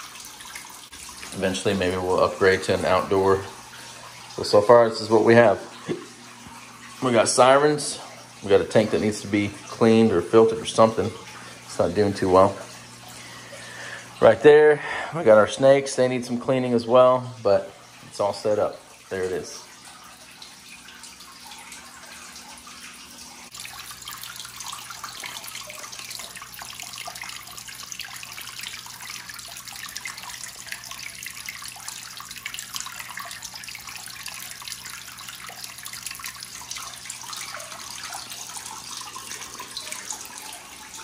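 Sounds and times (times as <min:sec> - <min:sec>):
pump outflow splashing water: 0:00.0 - 0:41.0.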